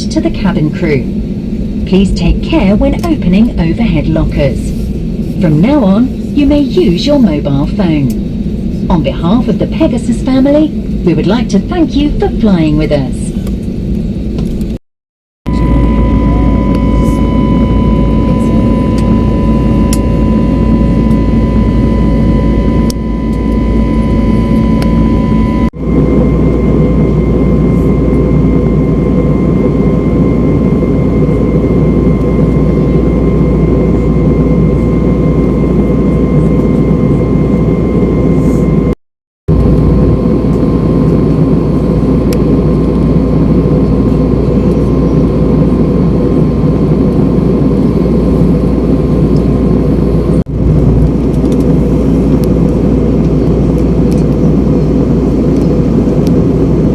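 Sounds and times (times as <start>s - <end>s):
jet engine drone with whine: 0.0s - 14.8s, 15.5s - 56.9s.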